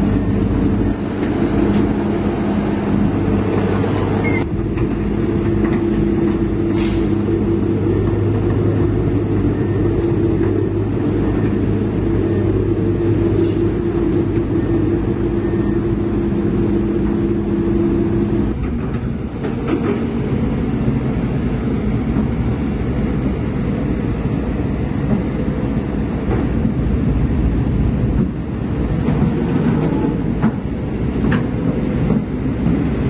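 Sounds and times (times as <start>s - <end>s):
heavy diesel engine droning: 0.0s - 33.0s.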